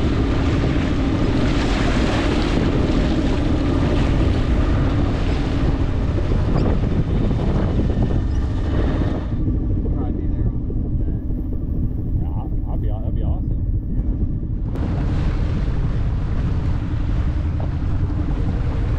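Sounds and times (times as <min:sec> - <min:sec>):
water slapping against hull: 0:00.0 - 0:12.0, 0:14.0 - 0:18.9
boat engine humming: 0:00.0 - 0:18.9
wind buffeting microphone: 0:00.0 - 0:18.9.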